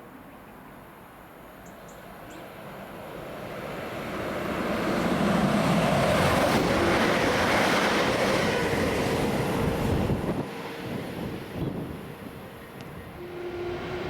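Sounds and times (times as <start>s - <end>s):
train passing: 0.8s - 14.0s.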